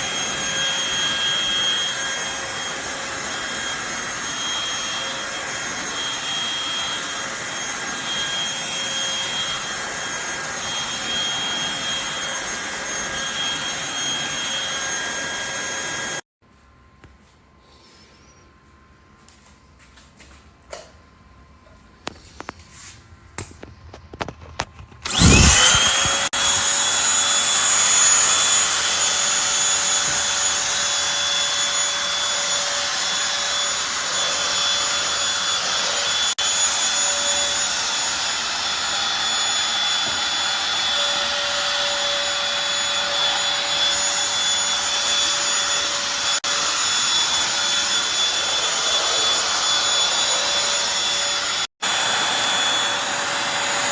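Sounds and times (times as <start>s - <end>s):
stick vacuum motor whining: 0.0s - 16.2s, 25.0s - 53.9s.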